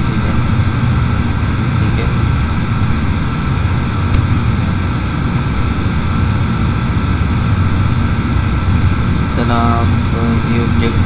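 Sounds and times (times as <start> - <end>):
faint high-pitched whines: 0.0 - 11.0
machine hum and rumble: 0.0 - 11.0.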